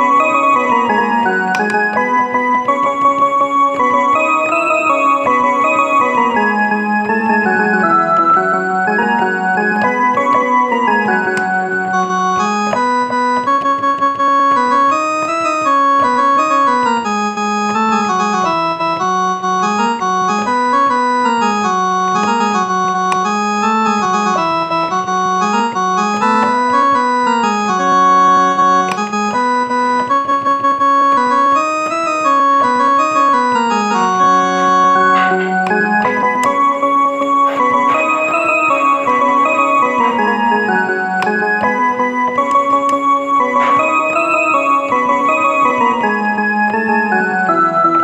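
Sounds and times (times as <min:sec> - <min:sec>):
electronic keyboard organ melody: 0:00.0 - 0:48.0.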